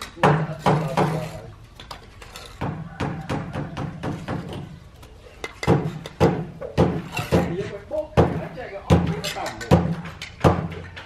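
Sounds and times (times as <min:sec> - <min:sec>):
construction knocks and clatters: 0:00.0 - 0:11.0.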